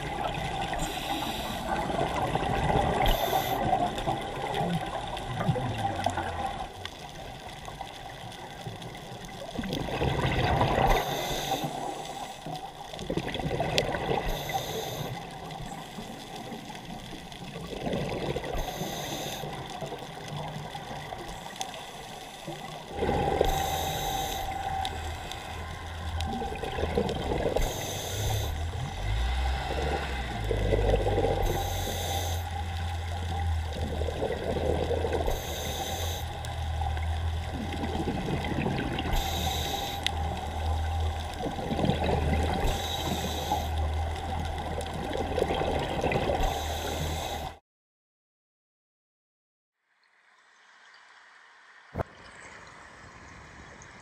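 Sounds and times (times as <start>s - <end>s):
scuba regulator bubbles: 0.0s - 47.6s
underwater water noise: 0.0s - 47.6s, 49.8s - 54.0s.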